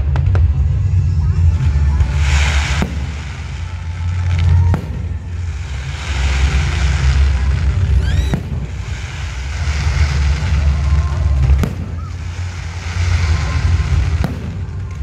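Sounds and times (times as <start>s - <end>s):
fireworks rumbling and bursting: 0.0s - 15.0s
whistling firework: 0.0s - 15.0s
sharp firework crack: 2.0s - 15.0s.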